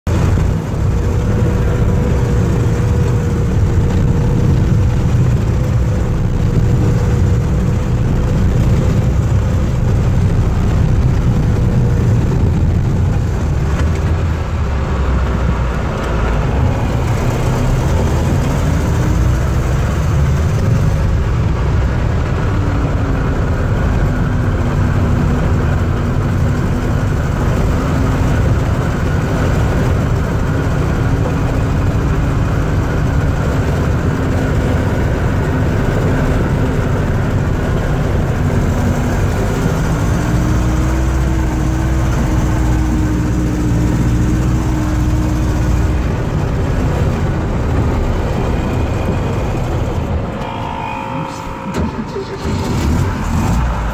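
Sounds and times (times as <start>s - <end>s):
track and drivetrain noise: 0.0s - 53.9s
snowcat engine running: 0.1s - 53.9s.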